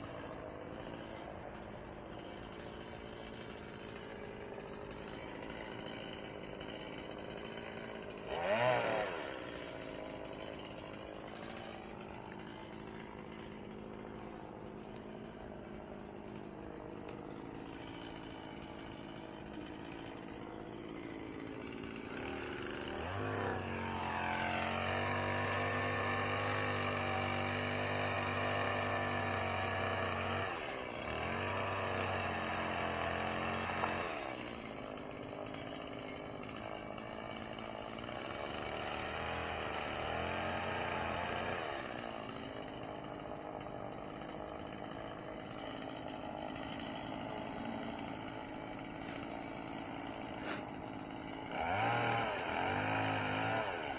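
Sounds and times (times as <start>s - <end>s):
chainsaw revving: 0.0s - 53.9s.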